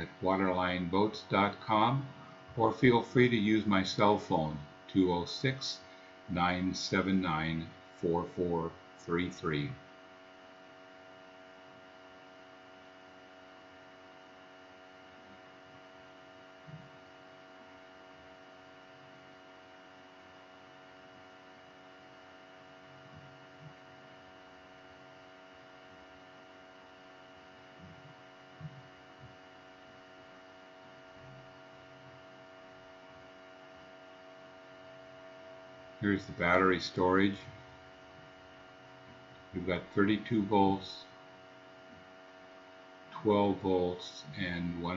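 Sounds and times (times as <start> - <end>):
electrical equipment hum: 0.0 - 44.9.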